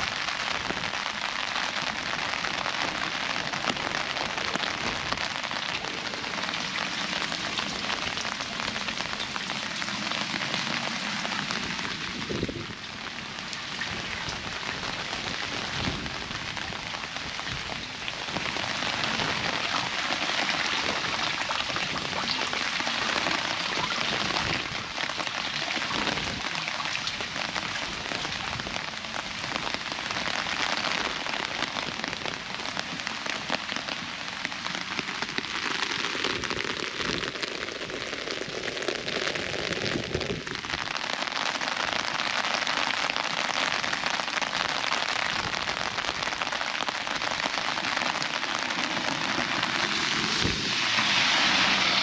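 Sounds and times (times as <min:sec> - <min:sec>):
rain pattering on an umbrella: 0:00.0 - 0:52.0.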